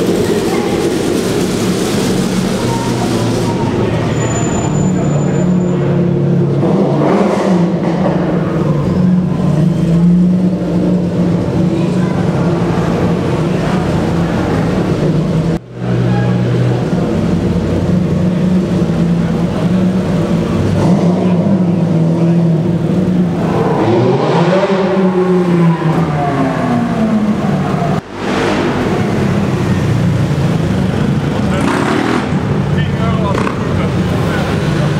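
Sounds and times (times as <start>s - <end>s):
car engine revving: 0.0s - 34.9s
car engines running at low speed: 0.0s - 34.9s.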